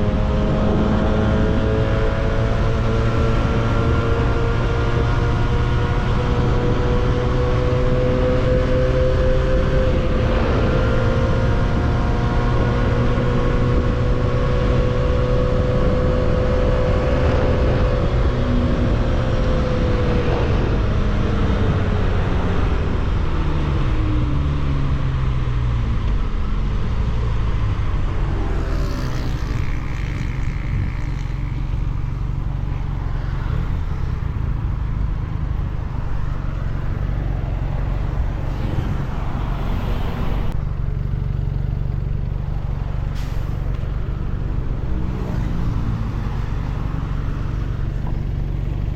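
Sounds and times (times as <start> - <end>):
wind and road rush: 0.0 - 48.9.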